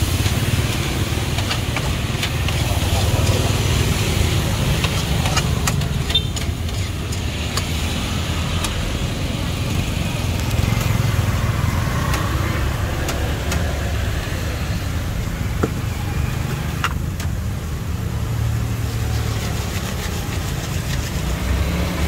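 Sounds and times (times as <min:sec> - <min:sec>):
low rumble of motor traffic: 0:00.0 - 0:22.0.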